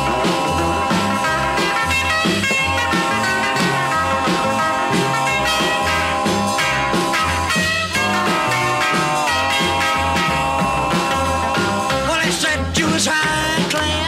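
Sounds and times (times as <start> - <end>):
rock music with bass line: 0.0 - 14.0.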